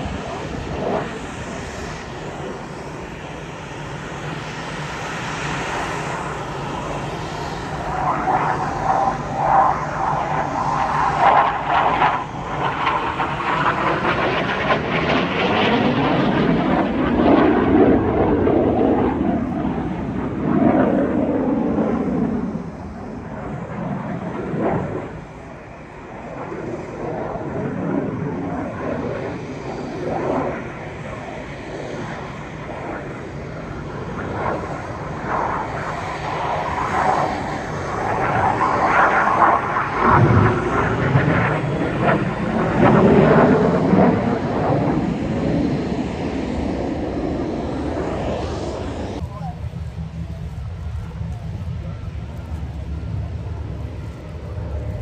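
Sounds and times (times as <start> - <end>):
jet aircraft flying past: 0.0 - 55.0.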